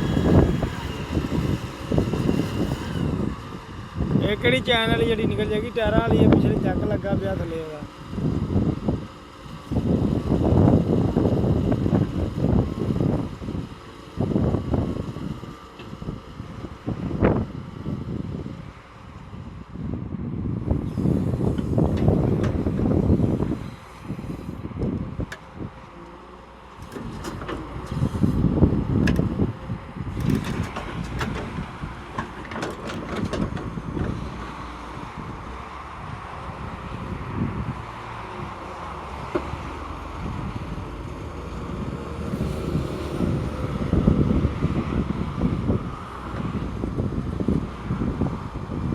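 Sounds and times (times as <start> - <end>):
vehicle engine rumbling unevenly: 0.0 - 48.9
wind buffeting microphone: 0.0 - 48.9.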